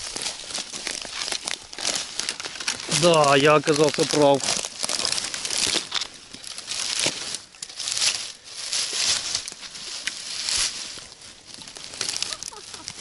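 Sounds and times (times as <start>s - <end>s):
dry leaf litter rustling: 0.0s - 13.0s.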